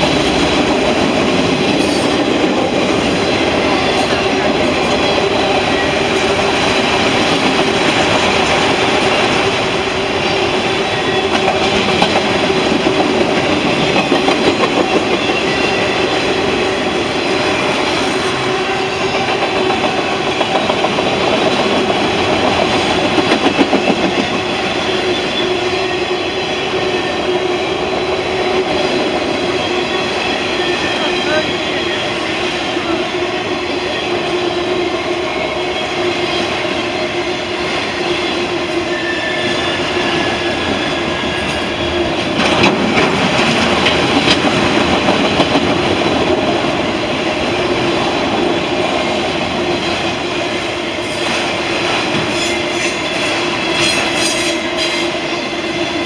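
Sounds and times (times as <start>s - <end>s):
clickety-clack over rail joints: 0.0s - 34.8s, 35.4s - 56.0s
train wheels rumbling on rails: 0.0s - 56.0s.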